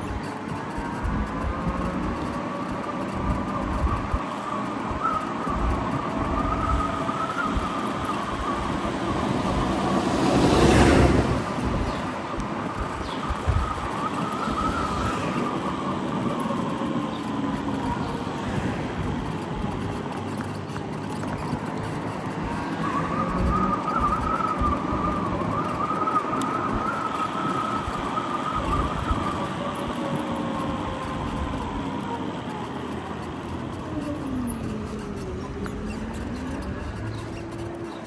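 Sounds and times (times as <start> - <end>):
steady rushing noise: 0.0 - 38.0.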